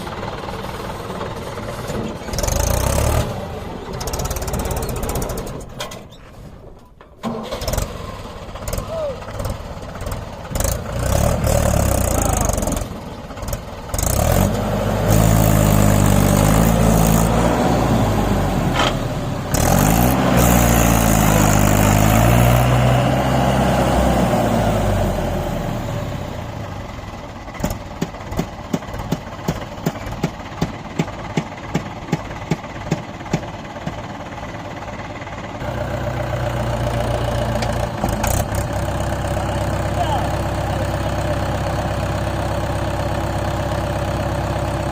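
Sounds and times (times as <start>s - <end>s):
tractor diesel engine revving: 0.0s - 6.0s, 7.2s - 44.9s.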